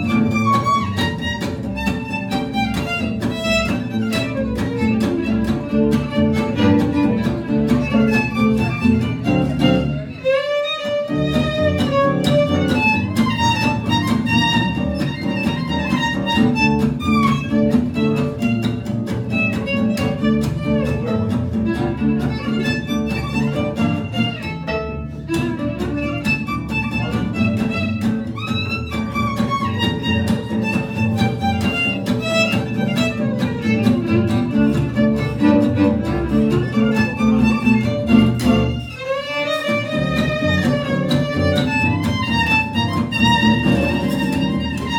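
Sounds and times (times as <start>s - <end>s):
acoustic guitar: 0.0s - 44.9s
plucked double bass: 0.0s - 44.9s
violin melody: 0.0s - 44.9s.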